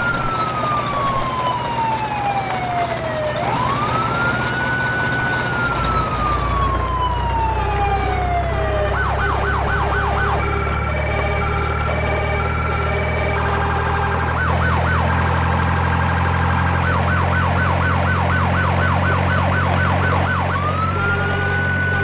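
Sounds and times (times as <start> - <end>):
siren wailing: 0.0 - 22.0.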